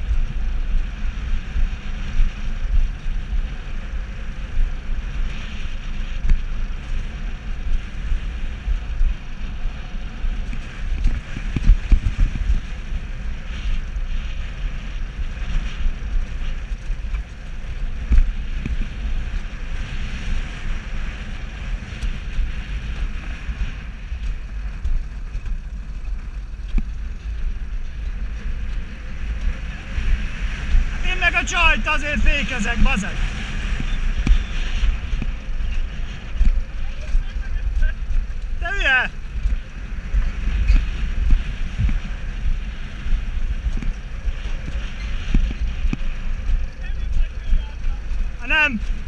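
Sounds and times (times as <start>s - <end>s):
coaster wheels rumbling on rails: 0.0s - 49.0s
wind buffeting microphone: 0.0s - 49.0s.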